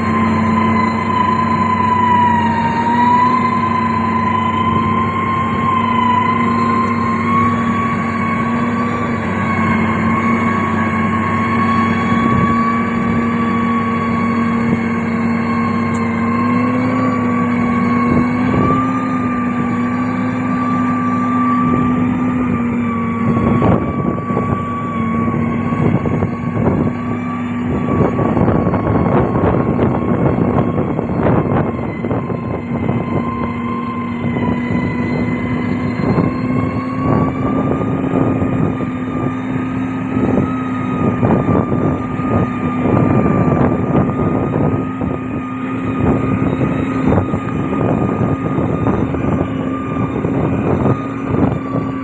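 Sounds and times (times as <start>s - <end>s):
constant machine whine: 0.0s - 52.0s
diesel engine drone: 0.0s - 52.0s.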